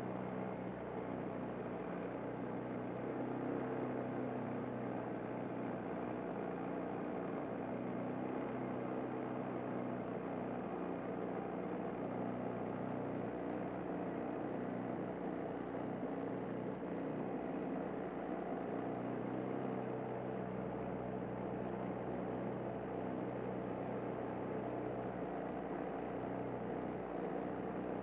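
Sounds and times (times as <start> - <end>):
outboard motor running: 0.2 - 28.0.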